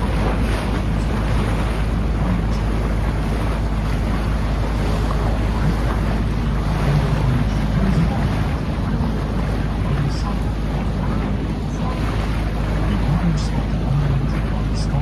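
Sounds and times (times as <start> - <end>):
water rushing against boat: 0.0 - 15.0
wind buffeting microphone: 0.0 - 15.0.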